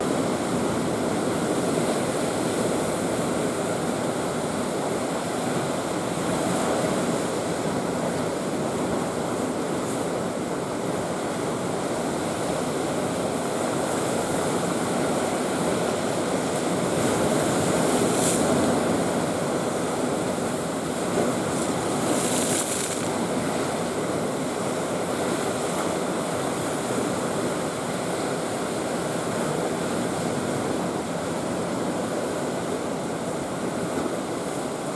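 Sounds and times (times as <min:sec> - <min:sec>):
waves pounding a breakwater: 0:00.0 - 0:34.9.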